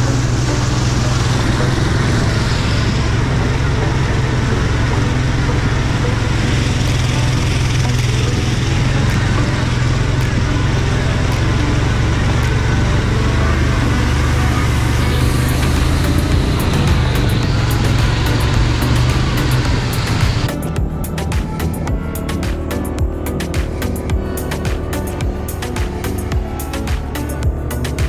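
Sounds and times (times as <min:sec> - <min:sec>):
atv engine drone: 0:00.0 - 0:28.0
broad rush of noise: 0:00.0 - 0:28.0.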